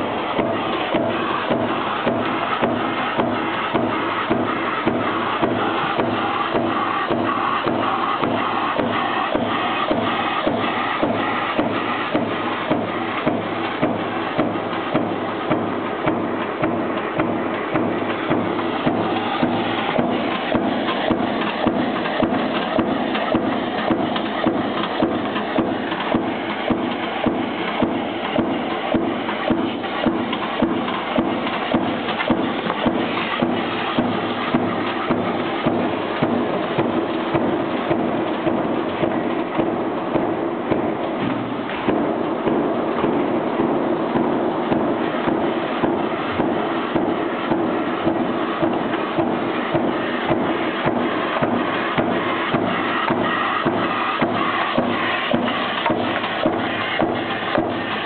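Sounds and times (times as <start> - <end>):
power press stamping strokes: 0.0 - 58.0
steady machine noise: 0.0 - 58.0.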